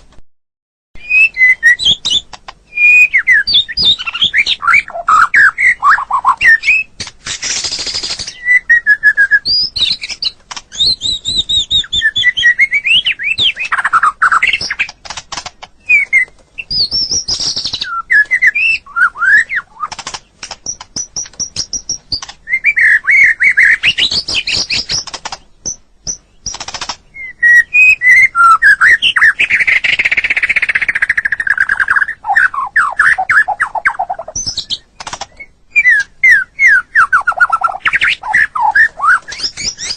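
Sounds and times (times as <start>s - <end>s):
bird singing whistles and trills: 1.0s - 15.0s, 15.8s - 20.0s, 20.6s - 39.9s.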